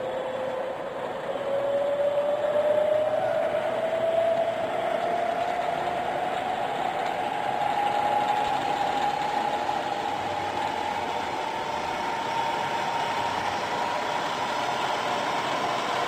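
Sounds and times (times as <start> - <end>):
milling machine spindle whine: 0.0 - 16.0.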